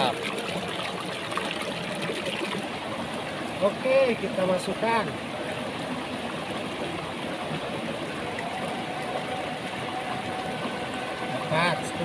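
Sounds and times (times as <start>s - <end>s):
faint steady hum: 0.0s - 12.0s
stream flowing: 0.0s - 12.0s.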